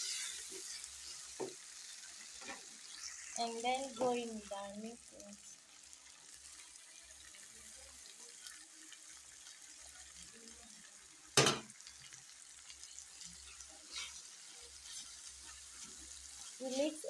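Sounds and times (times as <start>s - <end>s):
faint sizzle in pot: 0.0s - 17.0s.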